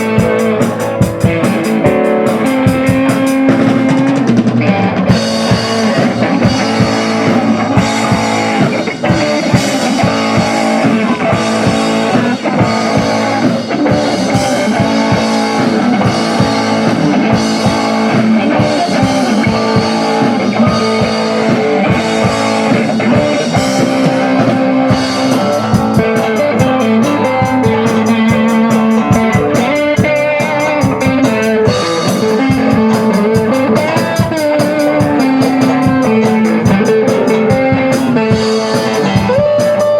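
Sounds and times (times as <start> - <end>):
rock music with guitar and drums: 0.0 - 39.9.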